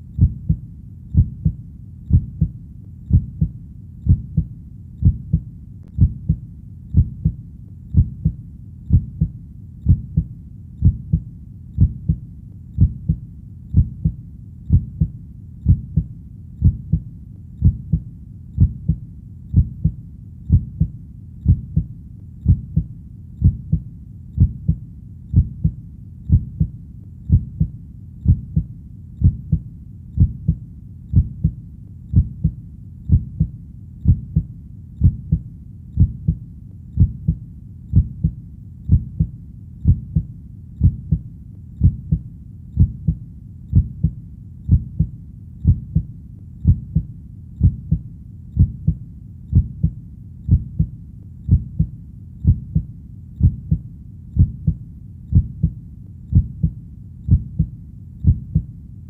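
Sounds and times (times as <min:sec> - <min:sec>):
heartbeat thumps: 0:00.0 - 0:12.2, 0:12.8 - 0:58.7.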